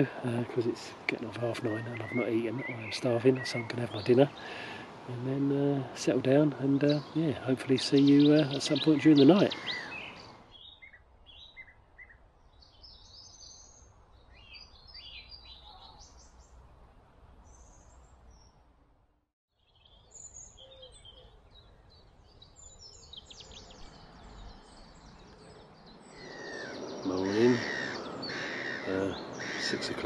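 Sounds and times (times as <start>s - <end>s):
birds chirping and singing: 0.0s - 16.5s, 19.6s - 30.0s.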